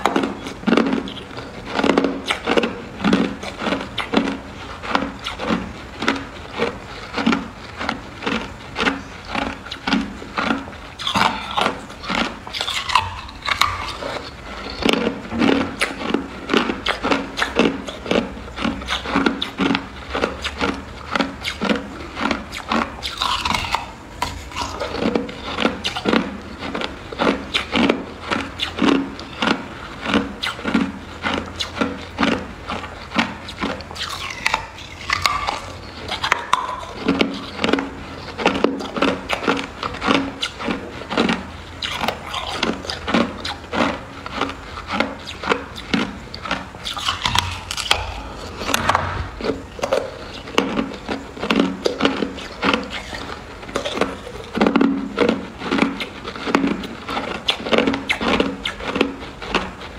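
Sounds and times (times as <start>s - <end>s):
ice being chewed crunching: 0.0s - 59.9s.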